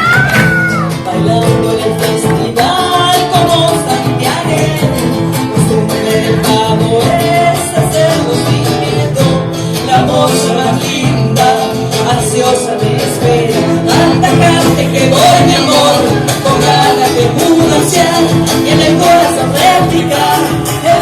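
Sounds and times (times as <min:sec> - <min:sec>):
folk guitars: 0:00.0 - 0:21.0
person singing: 0:00.0 - 0:21.0.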